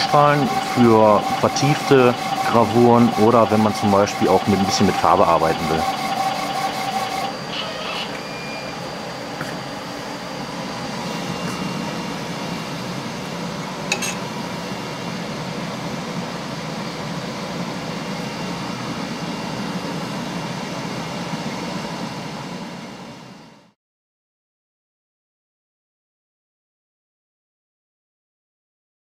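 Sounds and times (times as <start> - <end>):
fans whirring: 0.0 - 23.8.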